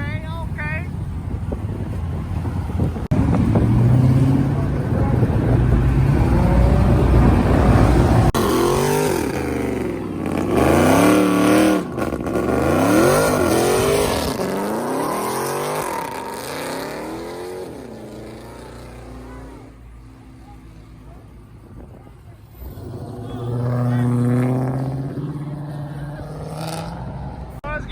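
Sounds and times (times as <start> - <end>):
car engine revving: 0.0 - 27.7.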